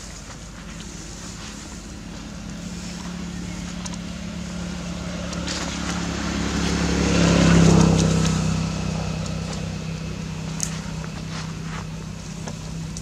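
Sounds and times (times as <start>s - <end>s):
vehicle engine passing by: 0.8s - 13.0s.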